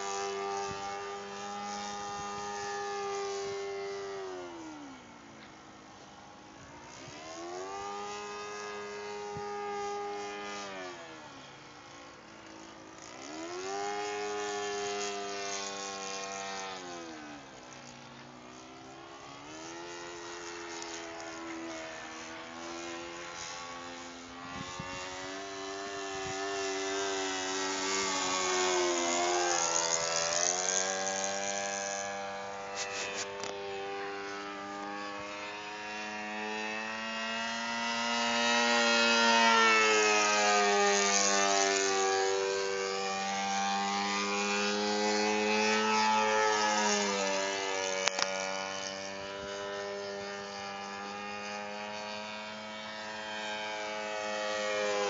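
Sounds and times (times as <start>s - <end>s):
model plane engine with propeller buzz: 0.0s - 55.0s.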